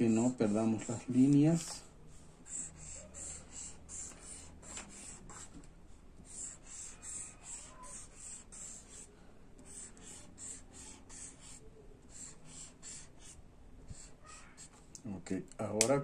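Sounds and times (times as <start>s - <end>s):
marker rubbing on paper: 0.1s - 5.6s, 6.2s - 14.9s.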